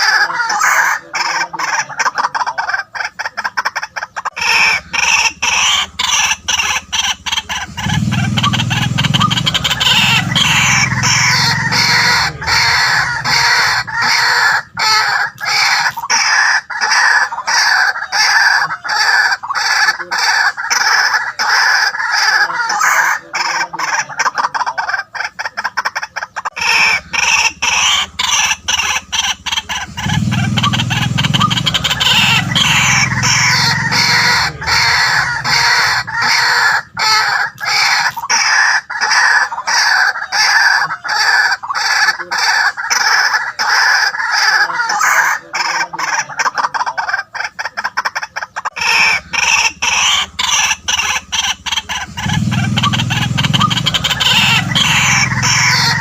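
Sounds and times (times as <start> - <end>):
waterhen calling: 0.0 - 56.0.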